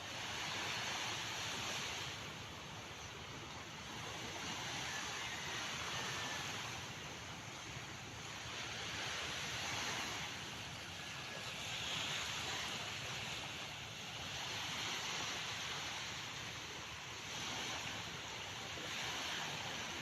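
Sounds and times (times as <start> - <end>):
calm sea waves washing in: 0.0 - 20.0.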